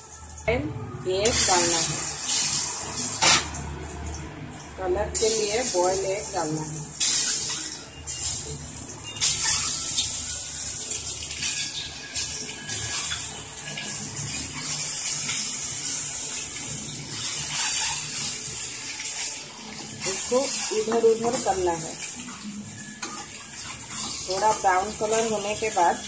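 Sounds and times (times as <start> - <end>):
eggs sizzling in hot oil: 1.2 - 26.0.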